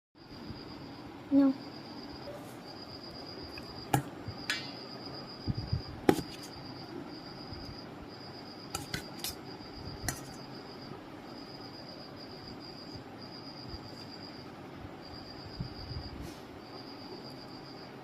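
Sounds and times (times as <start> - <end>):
faint high-pitched tone: 0.2 - 18.0.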